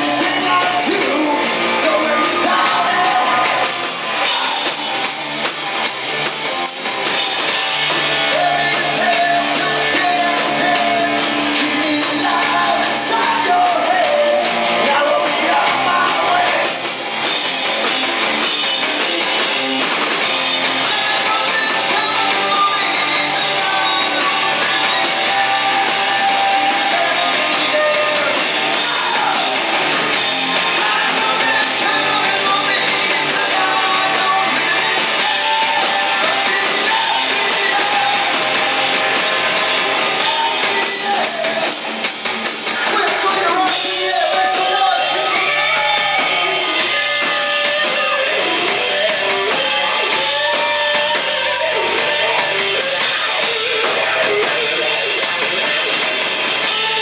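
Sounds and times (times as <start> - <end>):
man singing: 0.0 - 5.2, 7.1 - 17.0, 17.8 - 41.9, 42.6 - 57.0
drum kit: 0.0 - 57.0
electric guitar: 0.0 - 57.0.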